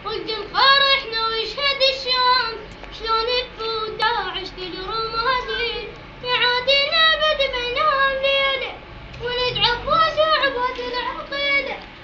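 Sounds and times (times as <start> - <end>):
child singing: 0.0 - 11.9.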